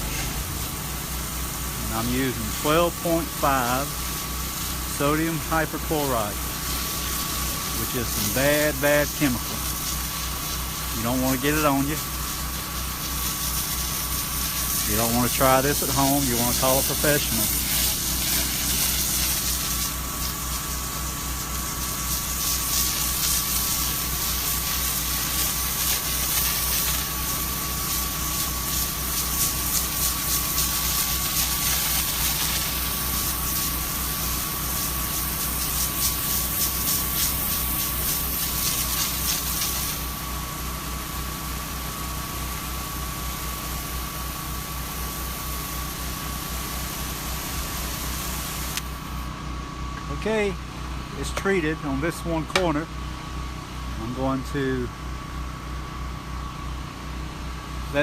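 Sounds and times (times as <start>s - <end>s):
spray hissing from nozzle: 0.0s - 49.2s
spray pump engine running: 0.0s - 58.0s.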